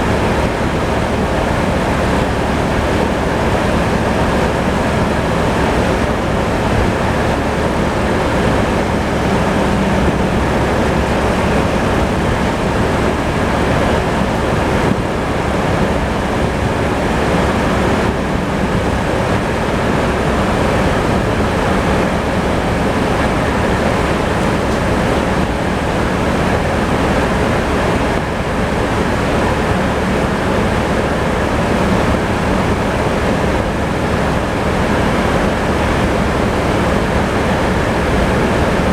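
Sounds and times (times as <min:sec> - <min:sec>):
tractor engine under load: 0:00.0 - 0:38.9.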